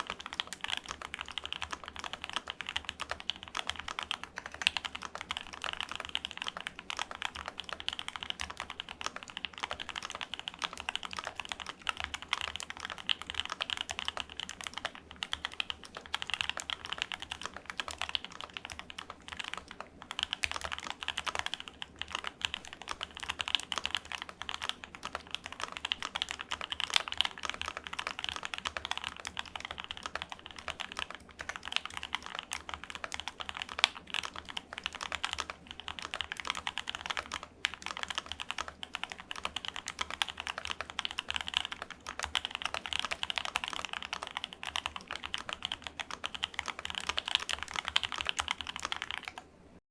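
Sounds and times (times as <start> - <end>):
mechanical keyboard typing: 0.0 - 49.5.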